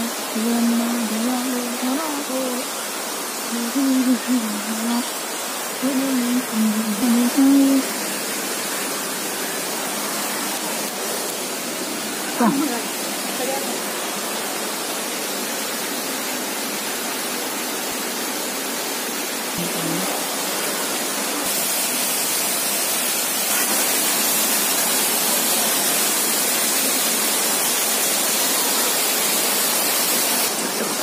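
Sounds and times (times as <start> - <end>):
waterfall splashing: 0.0 - 31.0.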